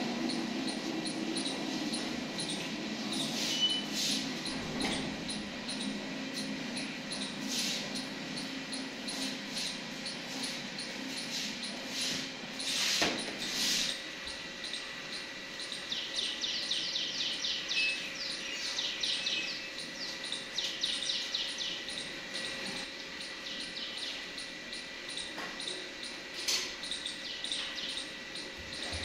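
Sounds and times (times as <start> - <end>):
small birds chirping: 0.2 - 29.0.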